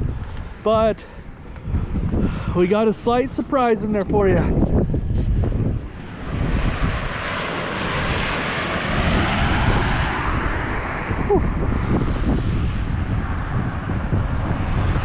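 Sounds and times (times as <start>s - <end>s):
rushing noise: 0.0s - 15.0s
vehicle engine rumble: 0.0s - 15.0s.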